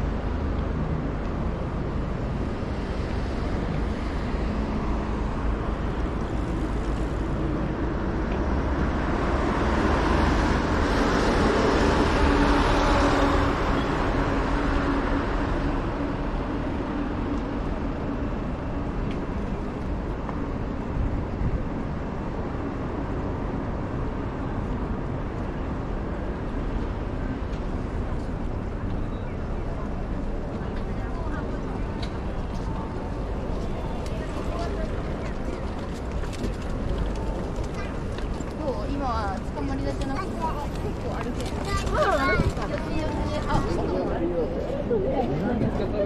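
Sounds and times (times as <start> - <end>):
hum of passing vehicles: 0.0 - 46.0.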